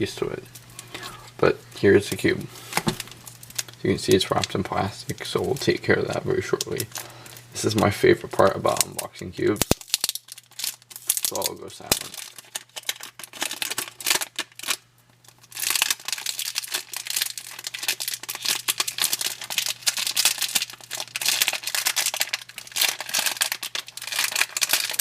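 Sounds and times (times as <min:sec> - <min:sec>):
plastic wrapping crinkling and tearing: 0:02.0 - 0:25.0.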